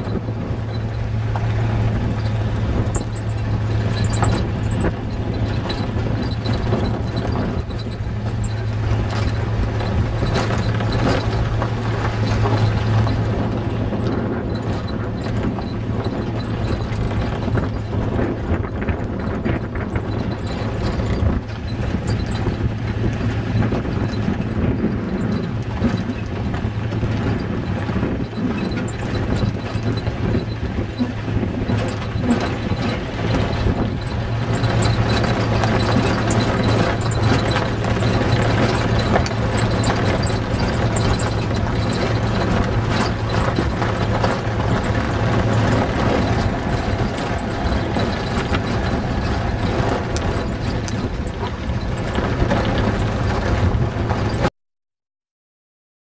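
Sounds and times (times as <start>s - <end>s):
rattling and knocking: 0.0s - 54.5s
vehicle engine humming: 0.0s - 54.5s.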